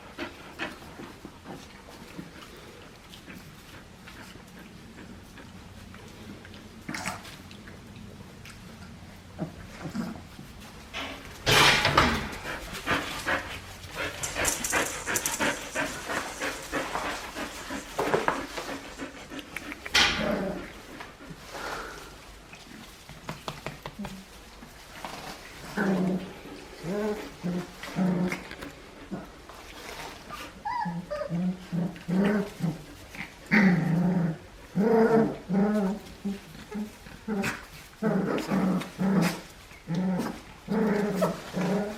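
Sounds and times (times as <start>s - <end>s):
puppies panting and scuffling: 0.0s - 41.9s.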